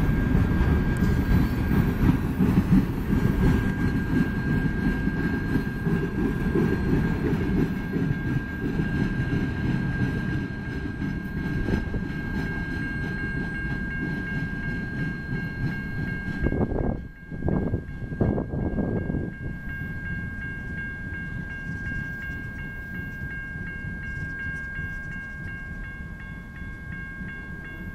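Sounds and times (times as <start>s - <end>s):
crossing warning bell ringing: 0.0s - 27.9s
freight train cars rumbling past: 0.0s - 27.9s.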